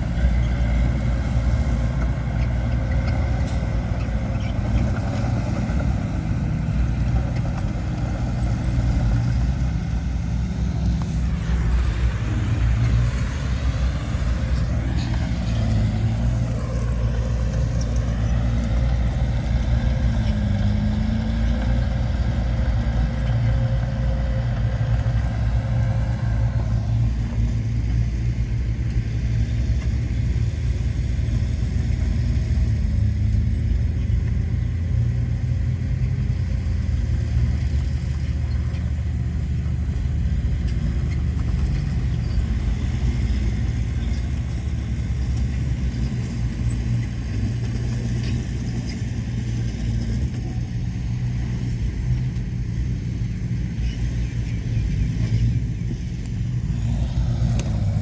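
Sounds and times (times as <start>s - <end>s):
earthmoving machinery engines: 0.0s - 58.0s.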